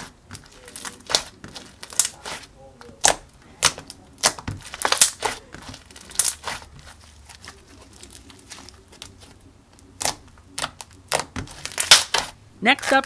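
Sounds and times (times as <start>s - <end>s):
slime squishing: 0.0s - 13.0s.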